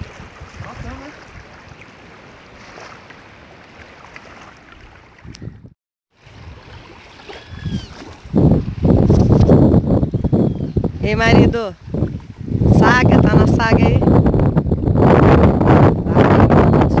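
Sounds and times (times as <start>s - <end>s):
gusty wind buffeting microphone: 0.0s - 1.8s, 5.2s - 17.0s.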